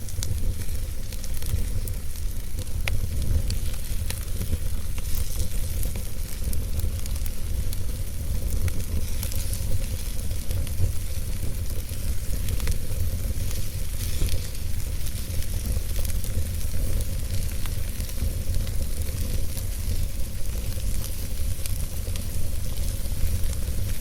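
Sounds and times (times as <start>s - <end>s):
campfire crackling and popping: 0.0s - 24.0s
low fire rumble: 0.0s - 24.0s.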